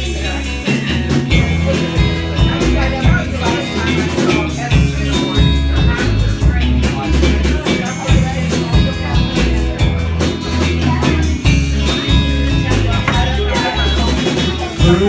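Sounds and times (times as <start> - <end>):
bass notes: 0.0 - 15.0
drum kit beat: 0.0 - 15.0
strummed acoustic guitars: 0.0 - 15.0.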